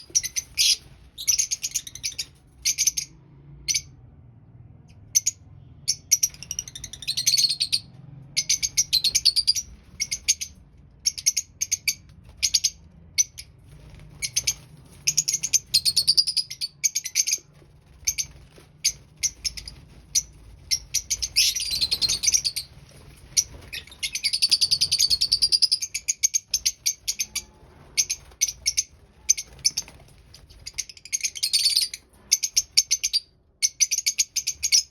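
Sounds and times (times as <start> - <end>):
lovebirds chirping: 0.0 - 3.1, 5.2 - 34.9.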